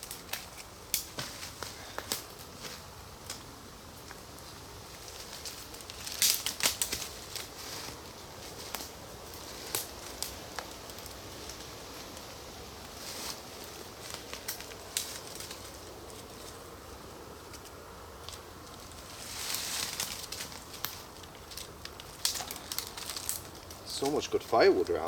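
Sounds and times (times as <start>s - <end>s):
twigs snapping: 0.0s - 4.2s, 5.1s - 12.2s, 12.8s - 16.2s, 17.5s - 25.0s
rustling in leaf litter: 0.0s - 25.0s.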